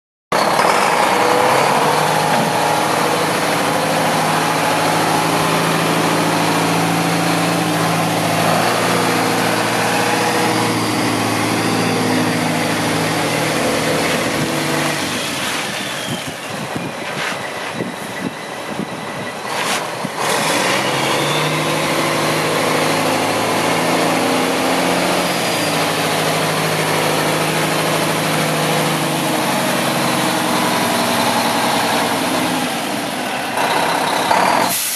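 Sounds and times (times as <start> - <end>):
truck diesel engine: 0.3 - 34.9.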